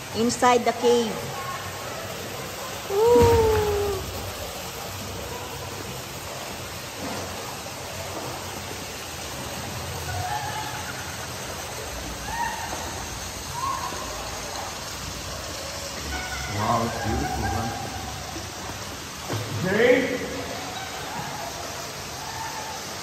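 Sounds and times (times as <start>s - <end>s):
creek flowing through cave: 0.0s - 23.0s.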